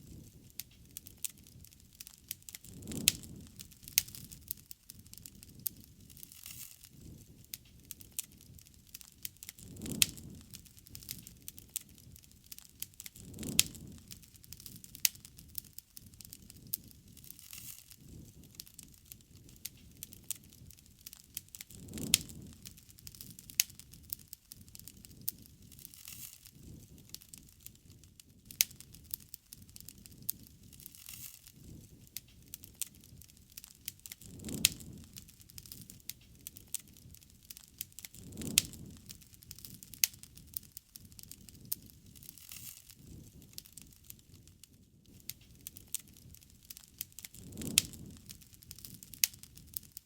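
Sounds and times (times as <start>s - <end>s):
burning wood popping and snapping: 0.0s - 50.0s
flames rustling: 0.0s - 50.0s.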